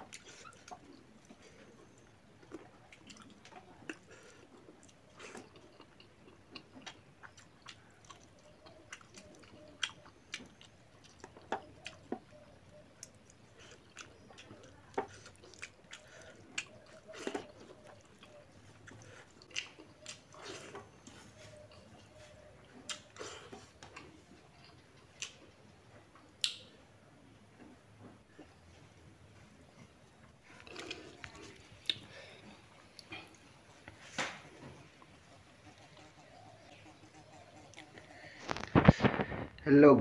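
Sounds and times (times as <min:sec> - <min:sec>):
person chewing with wet smacks: 0:00.0 - 0:25.8, 0:26.4 - 0:26.8, 0:30.4 - 0:39.0.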